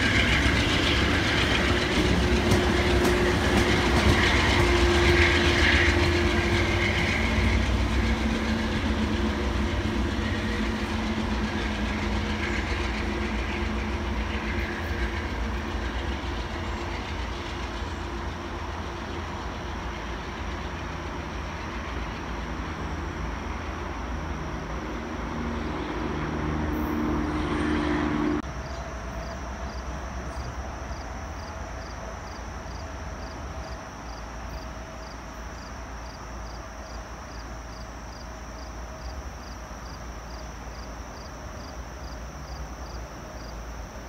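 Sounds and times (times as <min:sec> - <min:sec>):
passing train drone: 0:00.0 - 0:44.0.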